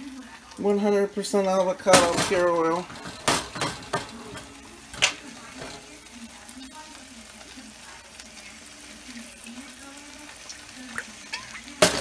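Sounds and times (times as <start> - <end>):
fish sizzling in a skillet: 0.0 - 12.0.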